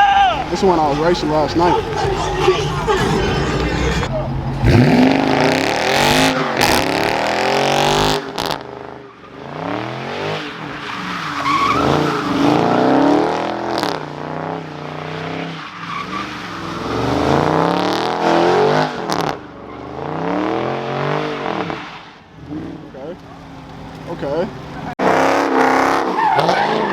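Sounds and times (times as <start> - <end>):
car engine revving: 0.0 - 21.8, 22.4 - 26.9
tires squealing on pavement: 0.0 - 26.9.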